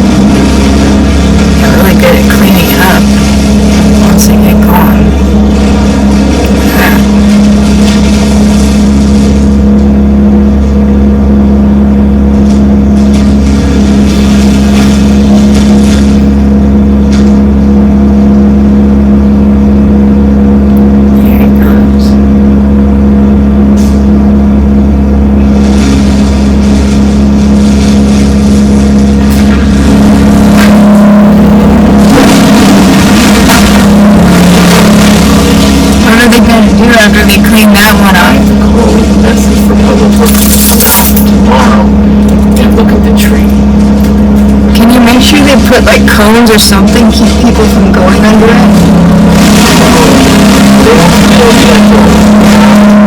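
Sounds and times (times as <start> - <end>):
branches fed through chipper: 0.0 - 53.0
wood chipper engine running: 0.0 - 53.0.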